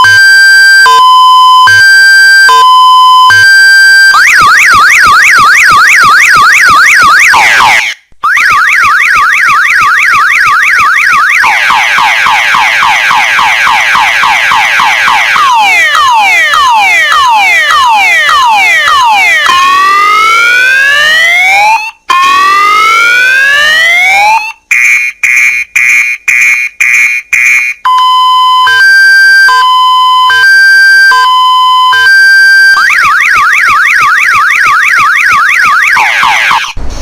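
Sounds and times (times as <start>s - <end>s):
car alarm siren: 0.0s - 36.8s.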